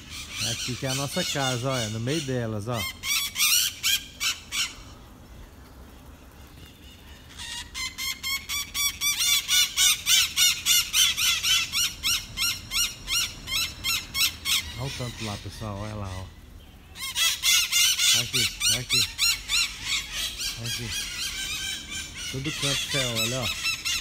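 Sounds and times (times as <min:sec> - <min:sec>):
parakeets screeching: 0:00.0 - 0:05.0, 0:06.6 - 0:24.0.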